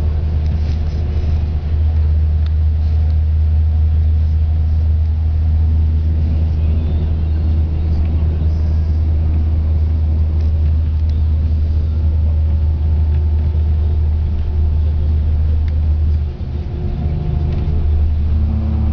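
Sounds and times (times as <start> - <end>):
bus engine and road rumble: 0.0 - 18.9.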